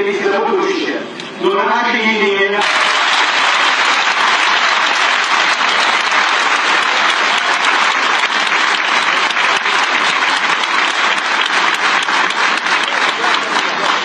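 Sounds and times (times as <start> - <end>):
crowd applauding: 2.6 - 14.0.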